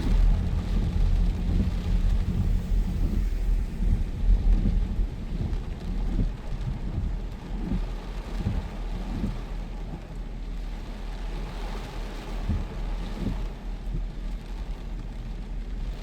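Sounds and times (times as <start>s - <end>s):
heavy rain rushing: 0.0s - 16.0s
low rumbling wind gusts: 0.0s - 16.0s.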